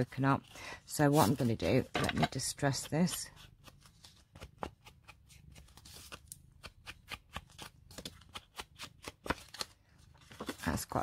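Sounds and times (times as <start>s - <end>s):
paper rustling and scratching: 0.0s - 6.3s, 7.3s - 11.0s.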